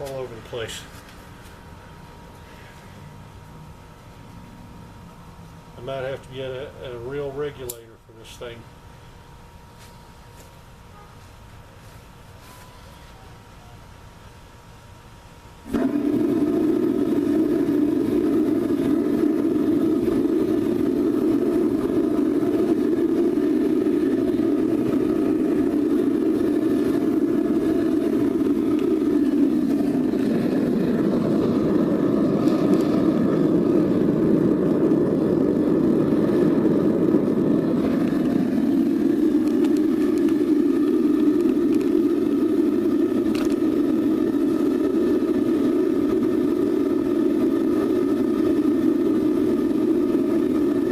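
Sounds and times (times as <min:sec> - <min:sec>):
burner flame and blower roaring: 0:00.0 - 0:12.6, 0:14.2 - 0:50.9.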